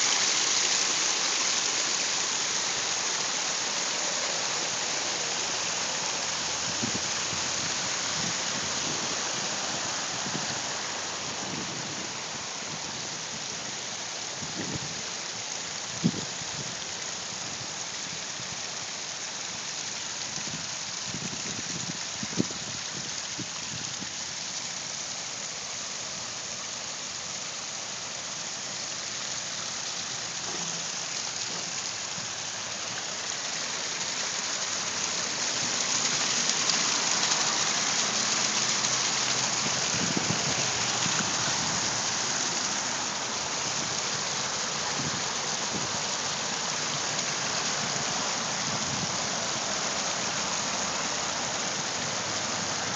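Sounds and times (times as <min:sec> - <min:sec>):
waterfall water rushing: 0:00.0 - 0:52.9.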